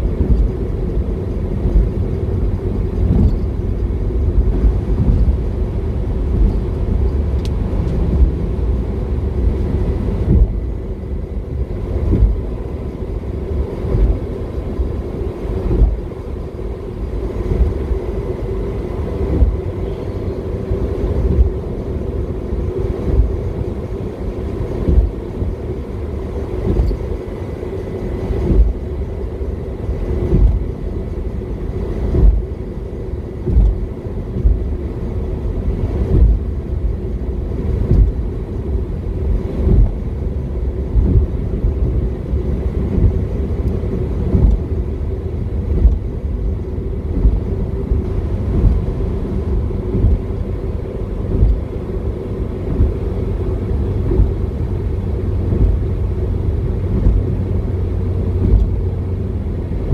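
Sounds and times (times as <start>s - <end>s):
engine and tyres rumbling: 0.0s - 59.9s.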